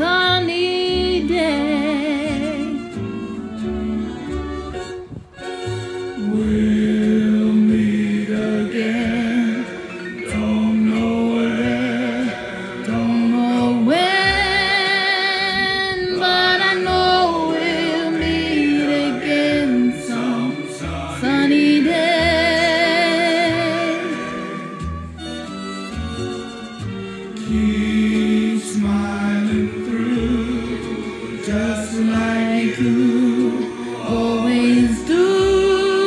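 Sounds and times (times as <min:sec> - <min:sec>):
instrumental bass line: 0:00.0 - 0:36.0
voices singing in harmony: 0:05.8 - 0:36.0.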